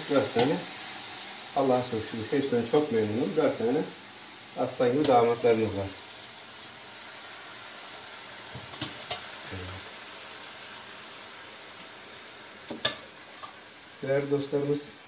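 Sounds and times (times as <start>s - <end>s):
syrup sizzling on hot pastry: 0.0s - 15.0s.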